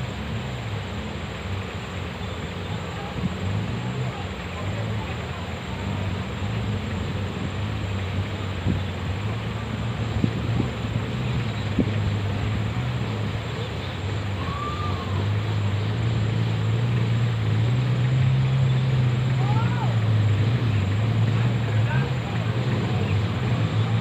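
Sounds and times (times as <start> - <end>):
jeep engine running: 0.0 - 24.0.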